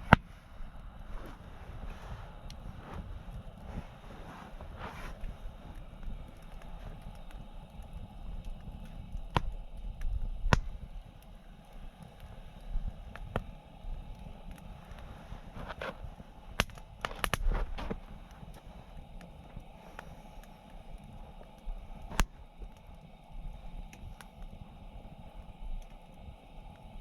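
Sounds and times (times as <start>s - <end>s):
campfire burning rumble: 0.0s - 27.0s
fire popping and crackling: 0.0s - 27.0s.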